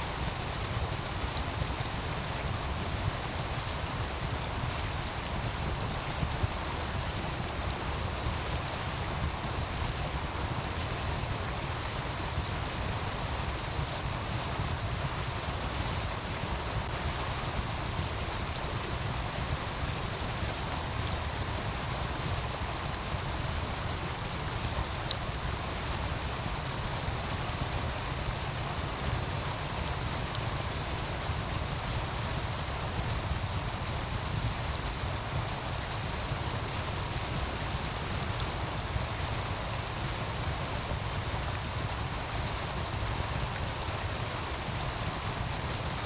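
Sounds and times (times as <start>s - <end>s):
wood fire crackling: 0.1s - 46.0s.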